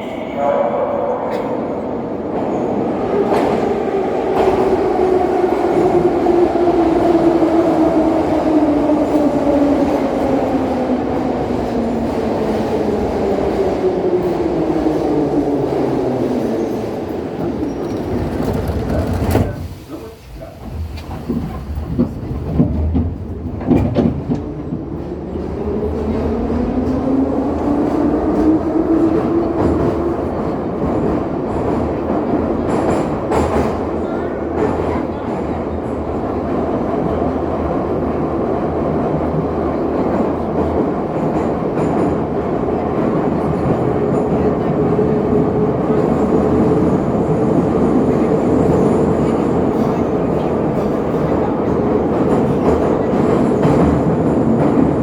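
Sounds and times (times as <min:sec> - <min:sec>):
train running noise: 0:02.3 - 0:55.0.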